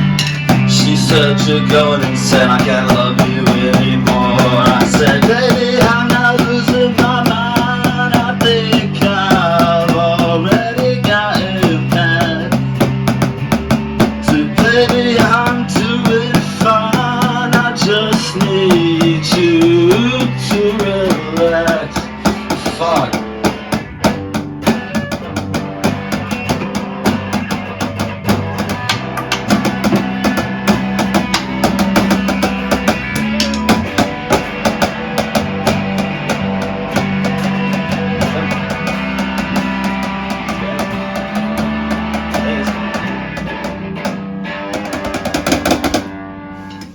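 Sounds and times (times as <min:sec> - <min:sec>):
bending lead guitar line: 0:00.0 - 0:46.9
instrumental rock band: 0:00.0 - 0:46.9.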